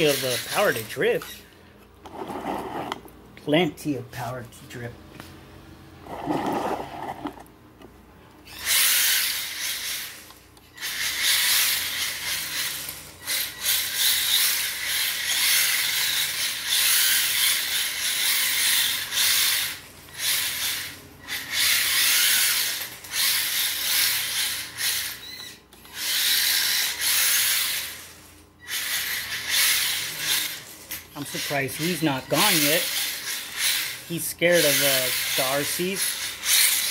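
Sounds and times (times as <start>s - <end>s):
toy car motor whirring: 0.0s - 3.1s, 6.0s - 7.5s, 8.4s - 36.9s.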